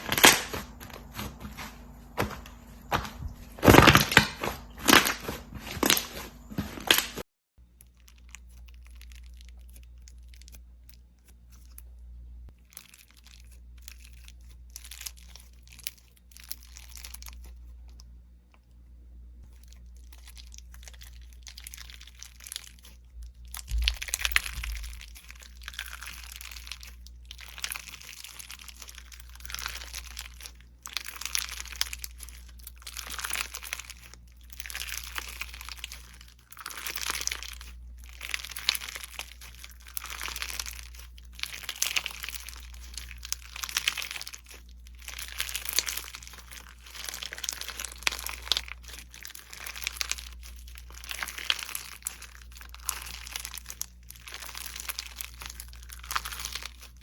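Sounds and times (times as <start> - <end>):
slime crackling and squishing: 0.0 - 18.8, 19.4 - 57.0.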